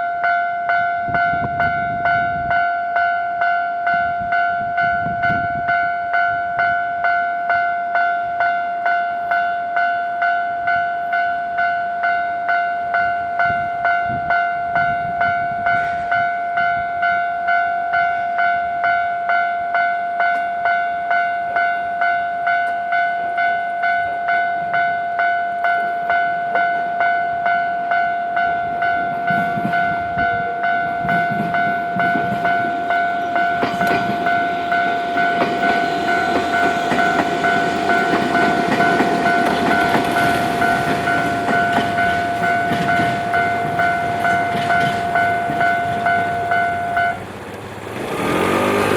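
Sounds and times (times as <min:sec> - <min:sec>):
level crossing alarm bell: 0:00.0 - 0:47.3
train rumbling on tracks: 0:00.0 - 0:48.9.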